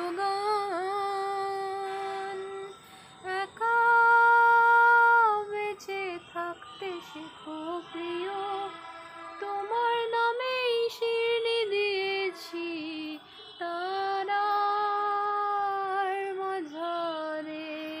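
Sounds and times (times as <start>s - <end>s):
woman singing slow melody: 0.0s - 18.0s.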